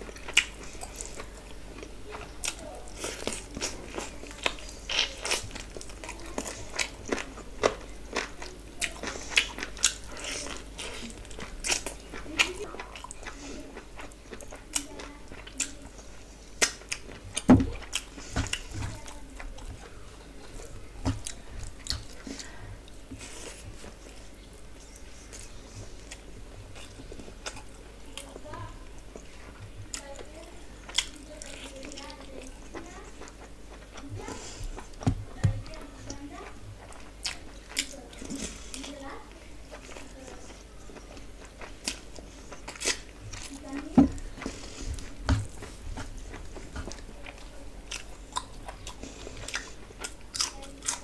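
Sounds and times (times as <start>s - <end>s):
person chewing food: 0.0s - 51.0s.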